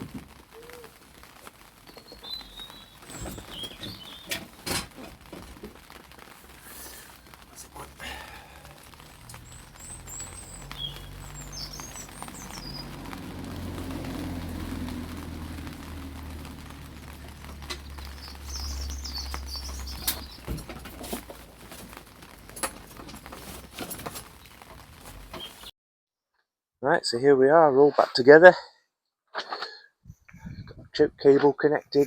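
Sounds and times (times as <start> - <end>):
birds chirping: 0.0 - 25.7.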